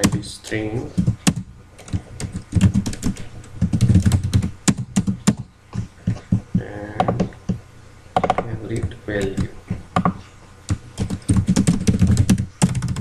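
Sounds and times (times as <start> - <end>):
keyboard typing: 0.9 - 7.6, 8.2 - 13.0.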